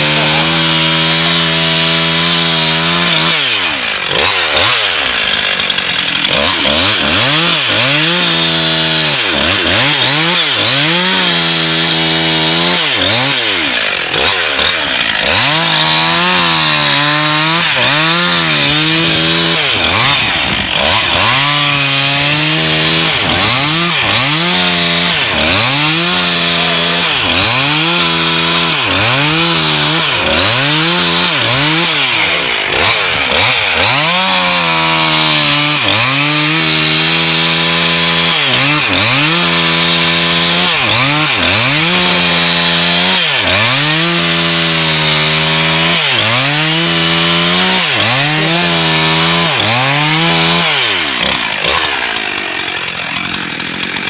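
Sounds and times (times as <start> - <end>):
chainsaw revving cutting ice: 0.0 - 54.0.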